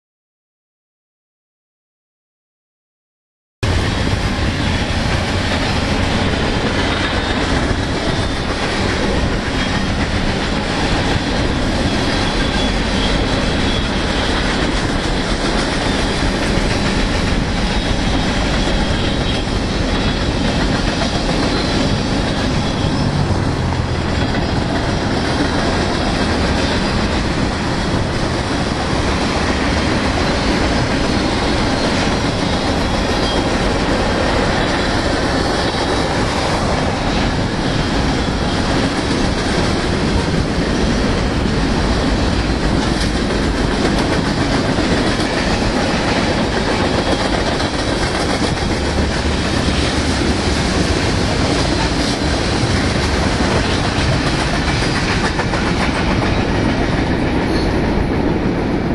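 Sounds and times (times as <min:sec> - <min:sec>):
freight train wheels rumbling: 0:03.6 - 0:58.9.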